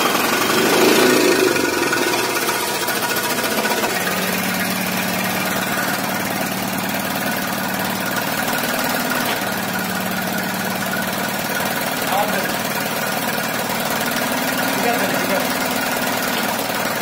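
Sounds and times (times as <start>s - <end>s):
diesel engine clatter: 0.0s - 17.0s.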